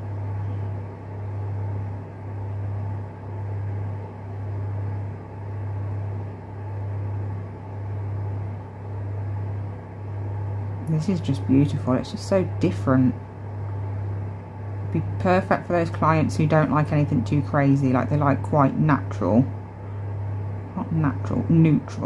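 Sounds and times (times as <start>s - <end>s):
pulsing electrical hum: 0.0s - 22.0s.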